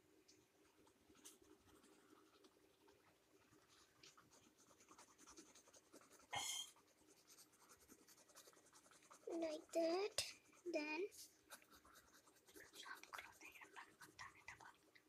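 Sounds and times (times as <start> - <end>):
pencil scratching on paper: 1.1 - 2.4, 3.5 - 14.8.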